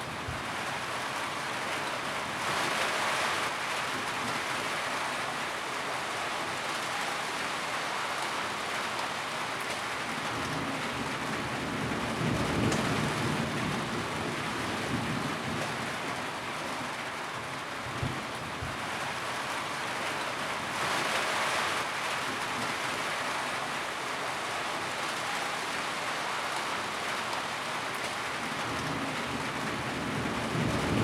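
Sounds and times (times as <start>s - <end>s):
heavy rain on a tin roof: 0.0s - 31.0s.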